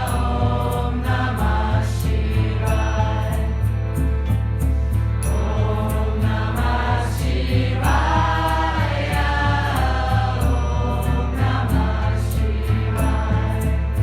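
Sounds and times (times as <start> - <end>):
music with steady beat and bass: 0.0 - 14.0.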